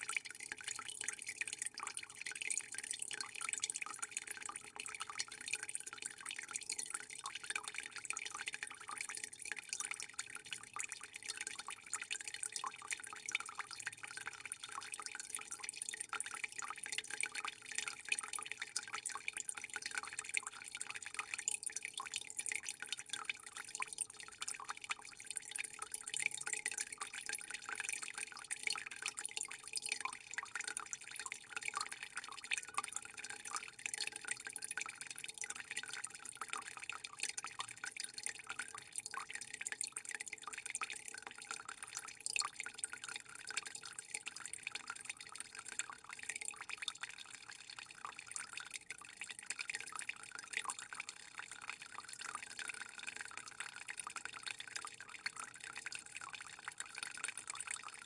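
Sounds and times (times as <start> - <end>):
water trickling and dripping: 0.0 - 58.0.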